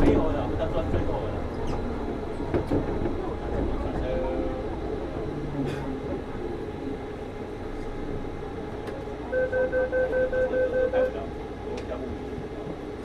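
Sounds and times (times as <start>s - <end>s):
train running hum: 0.0s - 13.0s.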